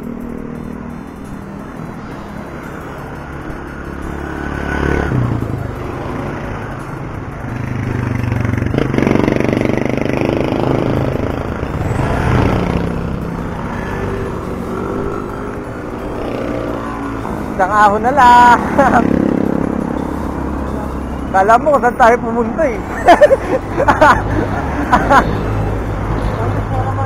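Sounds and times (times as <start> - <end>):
motorcycle engines running: 0.0 - 27.0
road noise: 0.0 - 27.0.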